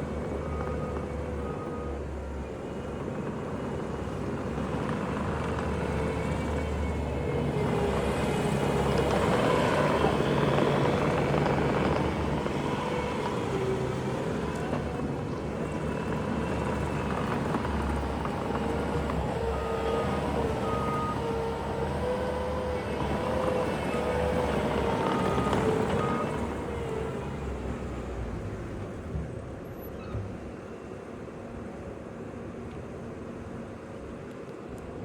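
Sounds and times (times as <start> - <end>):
diesel engine running under load: 0.0 - 29.8.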